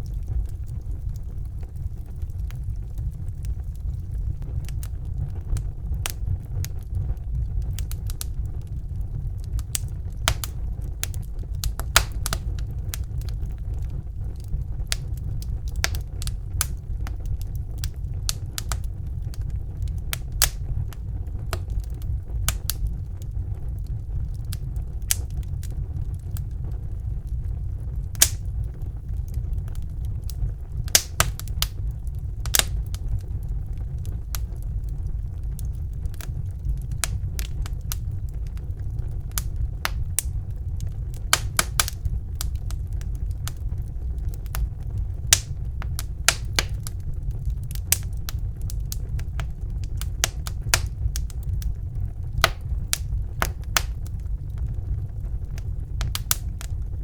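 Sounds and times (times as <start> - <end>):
fire crackles and pops: 0.0 - 57.0
low rumble of flames: 0.0 - 57.0.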